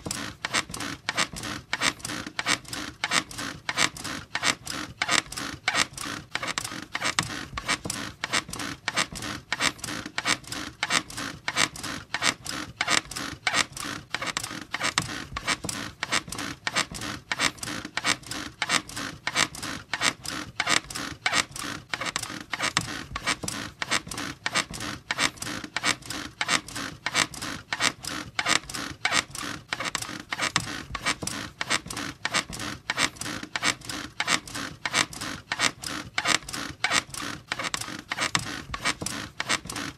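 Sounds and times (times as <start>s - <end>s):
bed squeaking rhythmically: 0.0s - 39.9s.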